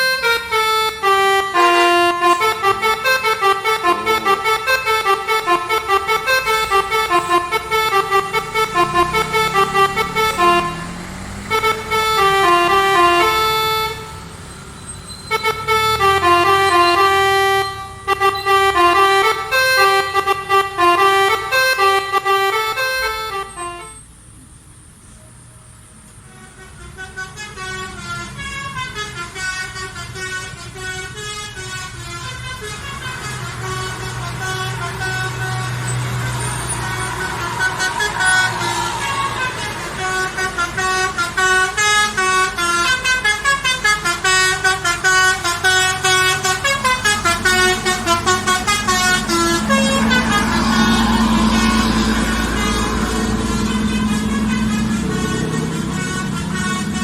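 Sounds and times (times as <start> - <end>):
melodic bus horn: 0.0 - 24.2, 26.2 - 57.0
engine running: 0.0 - 57.0.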